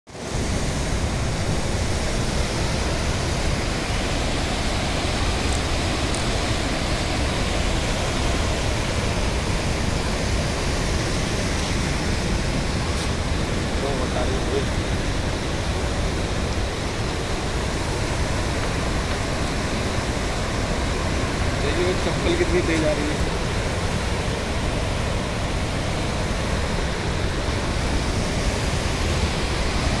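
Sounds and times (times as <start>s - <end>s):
river in flood rushing: 0.1s - 30.0s.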